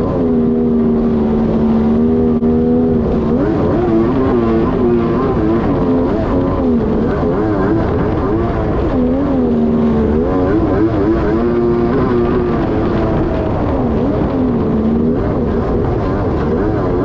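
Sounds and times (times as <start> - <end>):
jet ski engine running hard: 0.0 - 17.0.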